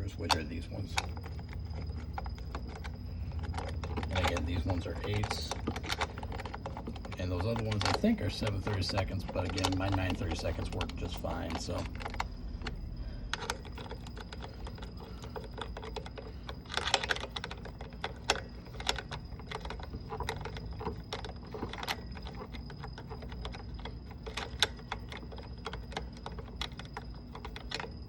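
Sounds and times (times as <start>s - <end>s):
socket ratchet clicking: 0.3s - 28.0s.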